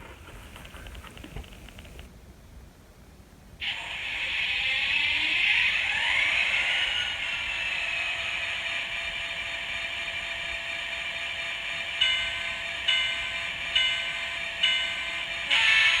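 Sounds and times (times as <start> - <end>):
diesel locomotive engine sound: 0.0 - 2.1, 3.6 - 16.0.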